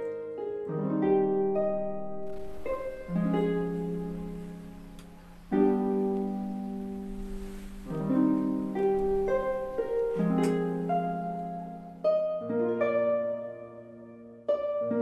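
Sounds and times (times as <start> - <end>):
slow instrumental music: 0.0 - 15.0.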